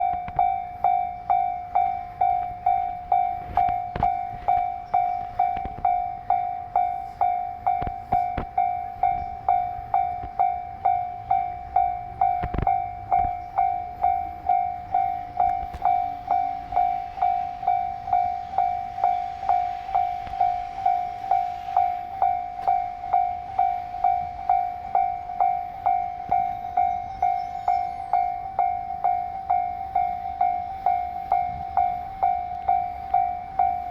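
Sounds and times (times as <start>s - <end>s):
level crossing bell ringing: 0.0s - 33.9s.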